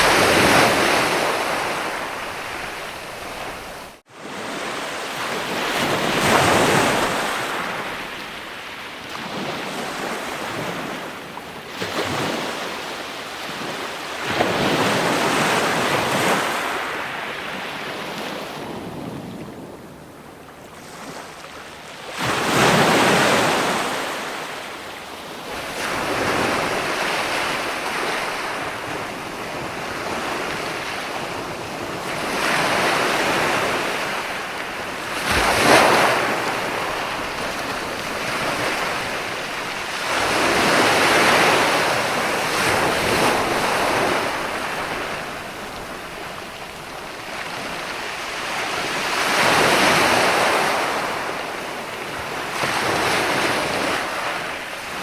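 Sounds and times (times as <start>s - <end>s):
ocean waves breaking ashore: 0.0s - 55.0s.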